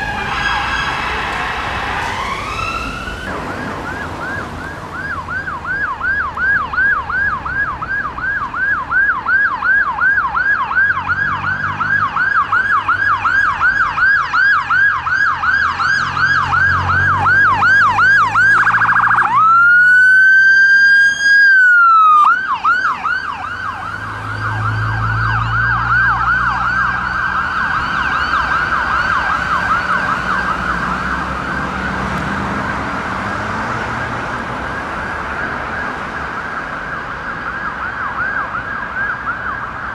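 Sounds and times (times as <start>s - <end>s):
vehicle engine passing: 0.0s - 9.0s, 10.7s - 20.9s, 22.0s - 38.4s
ambulance siren: 0.0s - 39.9s.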